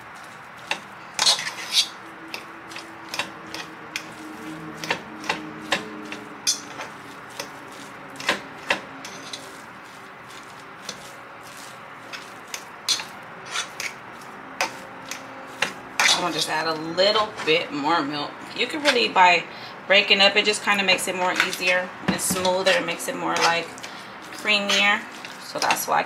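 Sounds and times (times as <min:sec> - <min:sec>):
fork mashing potatoes: 0:00.0 - 0:17.6, 0:18.7 - 0:19.1, 0:21.2 - 0:26.0
fork scraping metal pot: 0:00.0 - 0:17.6, 0:18.7 - 0:19.2, 0:21.2 - 0:25.8.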